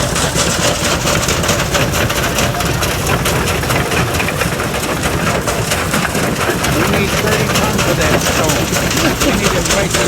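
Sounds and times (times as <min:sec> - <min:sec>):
engine rumble: 0:00.0 - 0:10.0
fast machinery clattering: 0:00.0 - 0:10.0.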